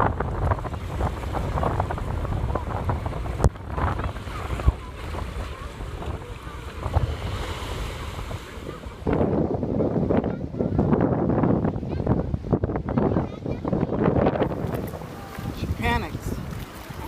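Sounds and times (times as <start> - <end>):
ocean waves on beach: 0.0 - 17.0
wind buffeting microphone: 0.0 - 17.0.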